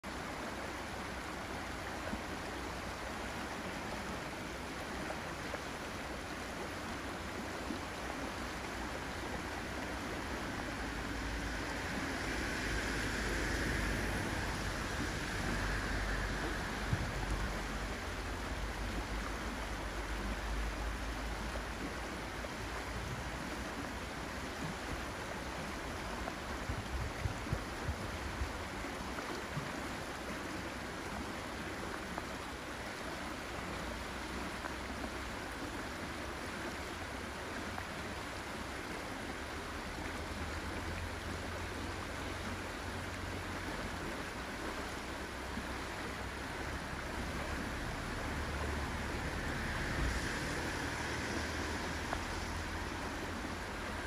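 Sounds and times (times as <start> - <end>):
river rushing over weir: 0.1 - 54.0.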